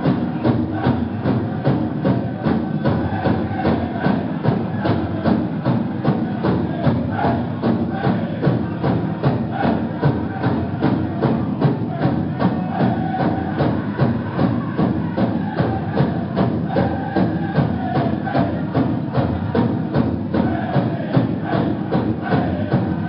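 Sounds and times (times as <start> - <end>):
big drum steady beat: 0.0 - 23.0.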